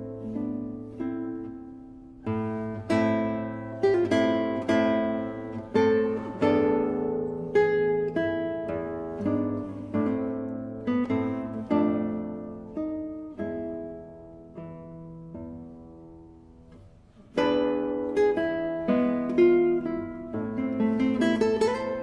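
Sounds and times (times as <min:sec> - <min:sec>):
classical guitar playing: 0:00.0 - 0:22.0.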